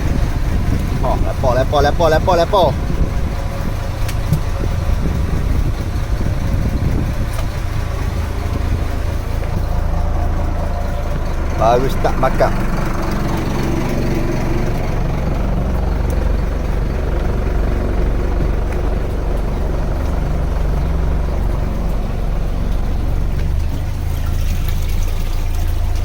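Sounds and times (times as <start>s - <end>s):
boat engine humming: 0.0s - 26.0s
wash of noise: 0.0s - 26.0s.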